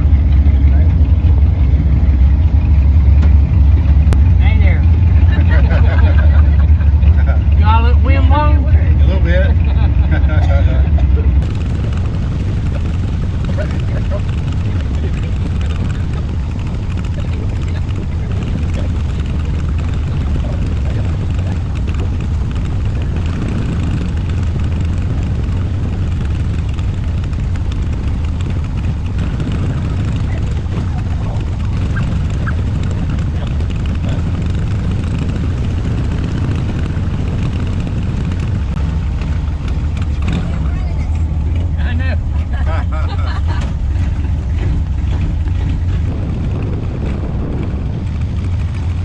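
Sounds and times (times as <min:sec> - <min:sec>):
car engine running: 0:00.0 - 0:49.0
wind rushing over microphone: 0:00.0 - 0:49.0.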